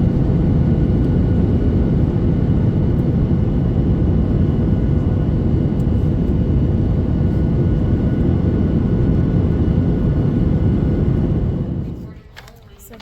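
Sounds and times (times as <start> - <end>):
faint engine whine: 0.0 - 13.0
jet engine cabin rumble: 0.0 - 13.0.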